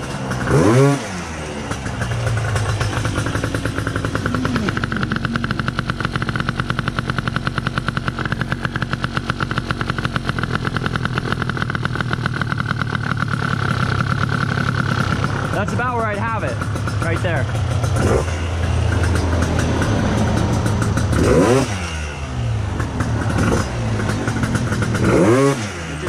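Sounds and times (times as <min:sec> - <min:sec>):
two-stroke scooter engine idling: 0:00.0 - 0:26.0.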